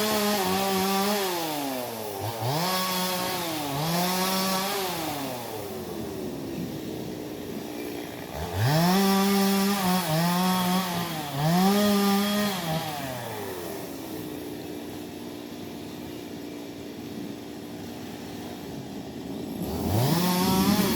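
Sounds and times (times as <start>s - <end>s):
chainsaw idling and cutting log: 0.0s - 20.9s.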